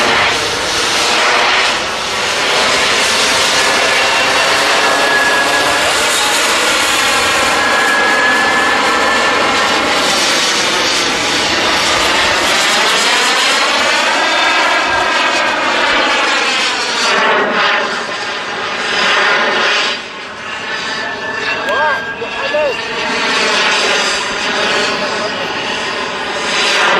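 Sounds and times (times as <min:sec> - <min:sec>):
model jet engine whine: 0:00.0 - 0:26.9.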